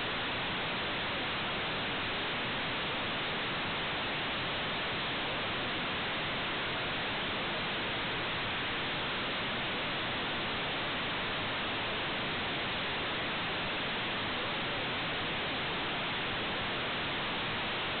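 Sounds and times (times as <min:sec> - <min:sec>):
static hiss: 0:00.0 - 0:18.0.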